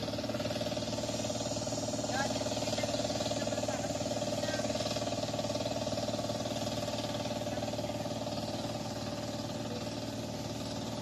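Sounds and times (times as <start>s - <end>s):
hand tractor engine chugging: 0.0s - 11.0s.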